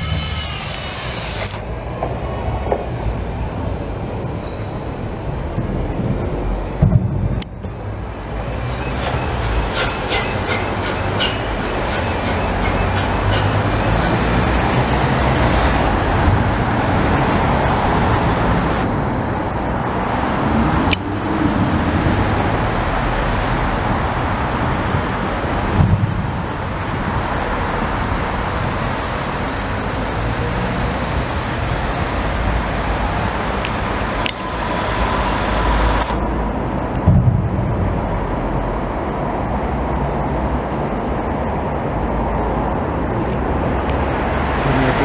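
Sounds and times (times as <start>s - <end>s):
steam train passing: 0.0s - 45.0s.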